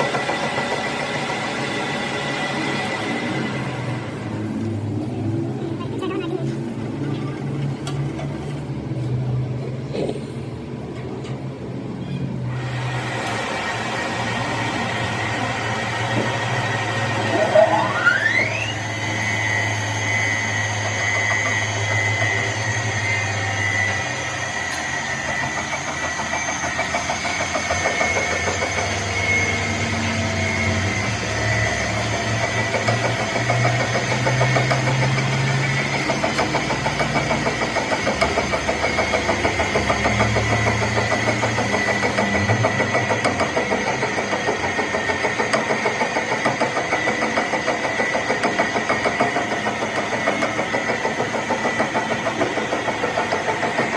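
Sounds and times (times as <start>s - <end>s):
metal lathe whining: 0.0s - 5.4s, 12.2s - 53.9s.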